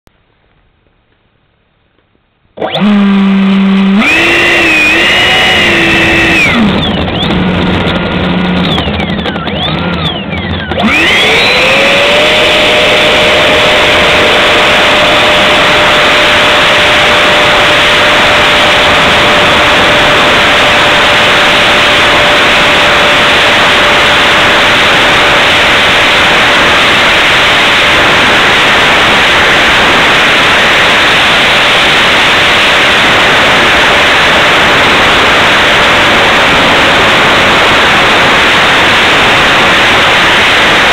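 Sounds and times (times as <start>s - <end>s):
electric ducted fan whine: 0.1s - 40.9s
rushing roar: 2.6s - 40.9s.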